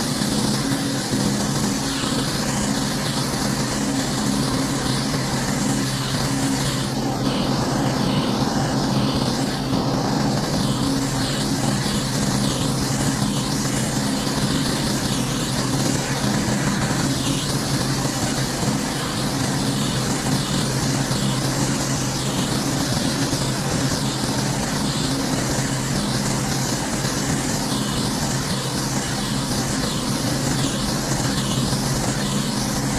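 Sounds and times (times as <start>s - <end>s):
pressure washer engine running: 0.0s - 32.9s.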